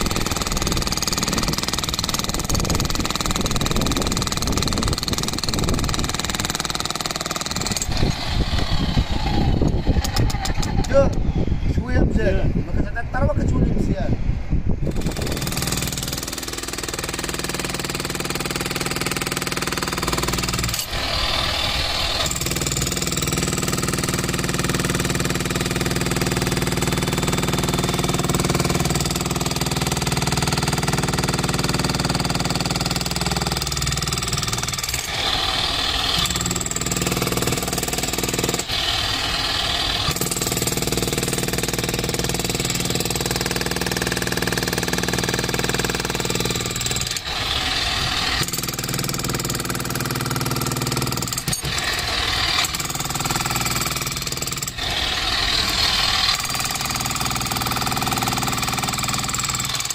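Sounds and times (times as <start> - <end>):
demolition hammer pounding concrete: 0.0 - 11.0, 15.0 - 59.9.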